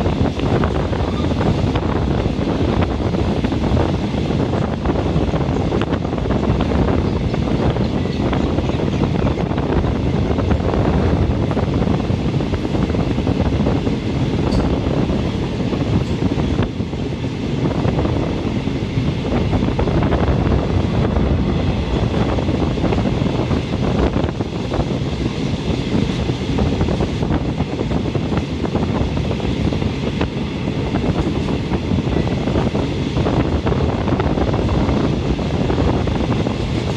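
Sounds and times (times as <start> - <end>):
rushing wind: 0.0 - 36.9
train wheels rumbling on track: 0.0 - 36.9.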